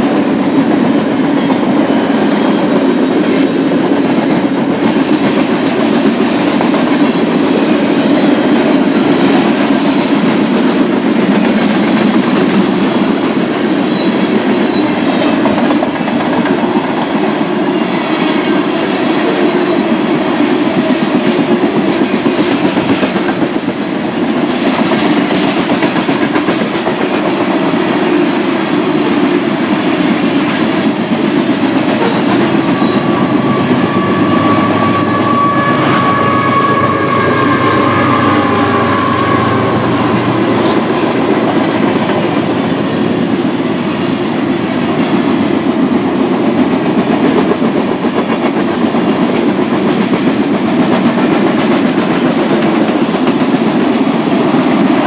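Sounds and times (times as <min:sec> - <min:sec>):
freight train wheels clicking: 0:00.0 - 0:55.0.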